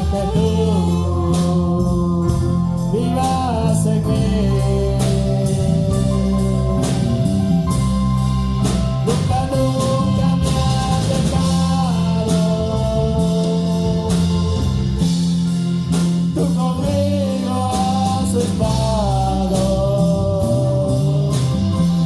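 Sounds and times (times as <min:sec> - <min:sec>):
drum kit beat with cymbals: 0:00.0 - 0:22.0
worship band playing slow song: 0:00.0 - 0:22.0.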